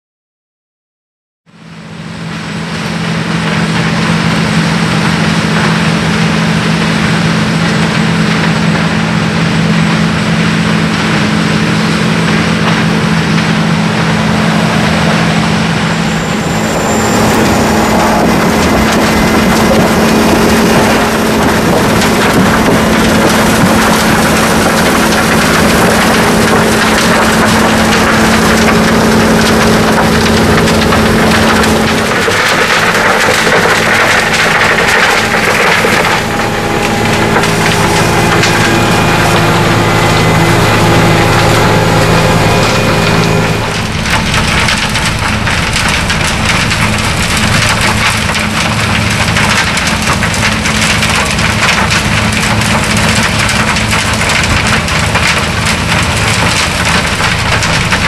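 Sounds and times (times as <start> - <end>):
diesel engine running hard: 1.5 - 58.0
rotor grinding asphalt: 2.7 - 58.0.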